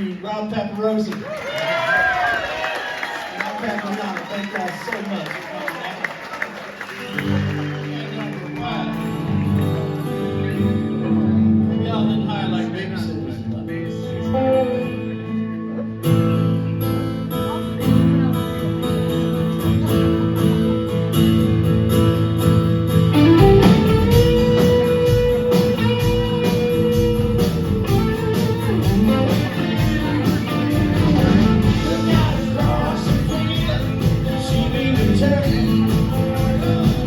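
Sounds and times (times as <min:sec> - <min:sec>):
live rock band playing: 0:06.9 - 0:37.0
strummed guitars: 0:06.9 - 0:37.0.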